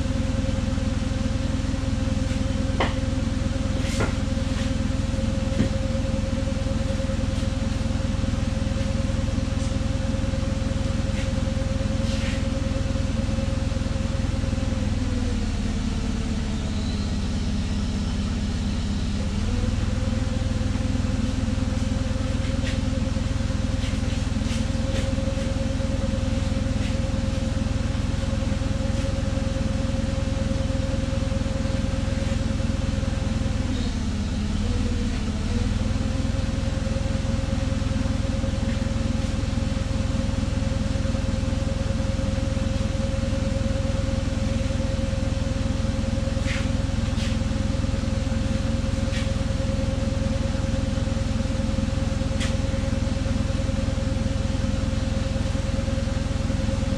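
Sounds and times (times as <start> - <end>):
forklift engine idling: 0.0 - 56.9.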